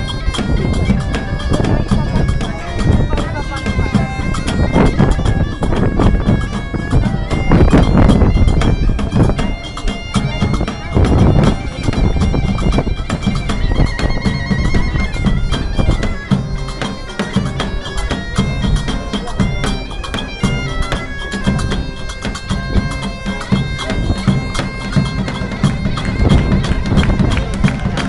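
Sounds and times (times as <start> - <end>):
bagpipes playing melody: 0.0 - 28.0
bass drums beating: 0.0 - 28.0.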